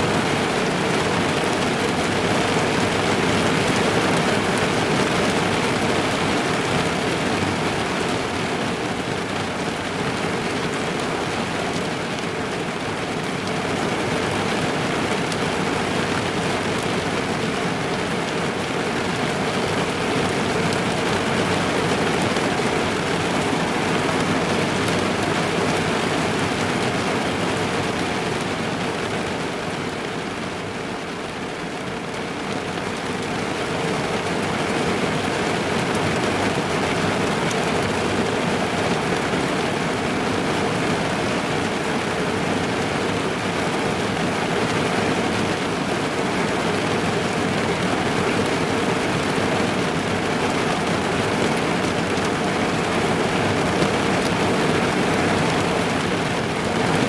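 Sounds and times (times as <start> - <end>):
rain drumming on a car roof: 0.0 - 57.0.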